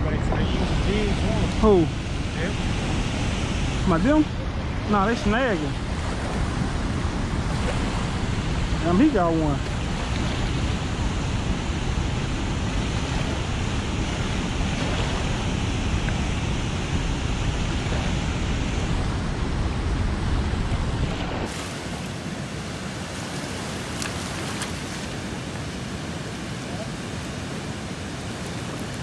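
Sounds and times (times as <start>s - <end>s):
river water washing against rocks: 0.0s - 19.3s, 20.6s - 29.0s
wind rumbling on microphone: 0.0s - 29.0s.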